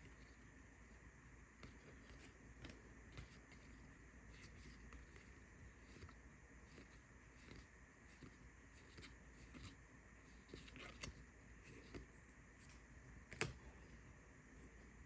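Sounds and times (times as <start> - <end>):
trading cards flicking and rustling: 0.0 - 14.0.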